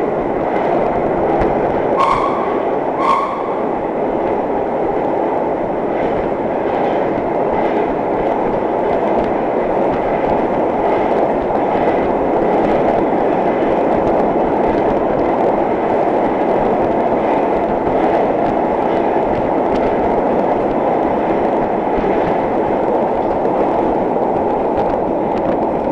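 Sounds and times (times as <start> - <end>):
subway car wheels on rails: 0.0 - 25.9
wheels clicking over rail joints: 0.0 - 25.9.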